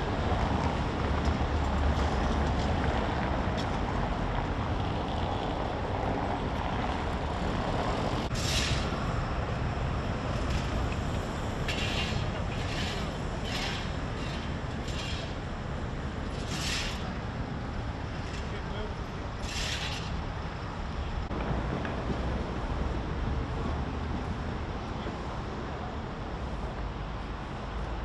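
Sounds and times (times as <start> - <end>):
vehicles passing rumble: 0.0 - 28.0.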